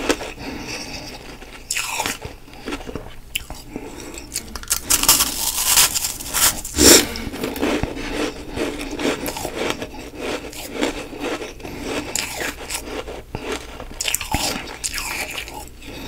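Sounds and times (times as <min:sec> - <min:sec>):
crunching ice while chewing: 0:00.0 - 0:16.0.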